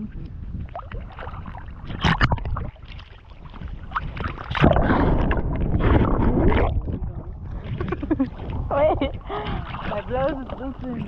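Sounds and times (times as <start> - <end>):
water splashing and sloshing: 0.0 - 11.0
wind rumbling on microphone: 0.0 - 11.0.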